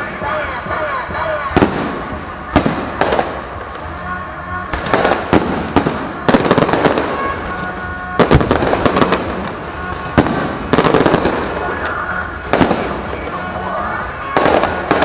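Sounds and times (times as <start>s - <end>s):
firework bangs: 0.0s - 15.0s
firework crackling: 0.0s - 15.0s.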